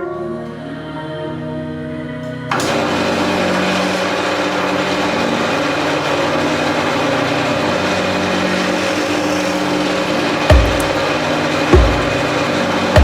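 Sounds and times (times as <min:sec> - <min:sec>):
electric motor whirring: 0:02.5 - 0:13.0.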